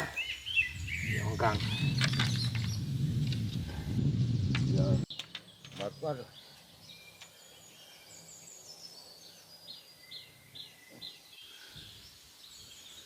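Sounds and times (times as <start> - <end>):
background hiss: 0.0 - 13.0
bird chirps: 0.0 - 13.0.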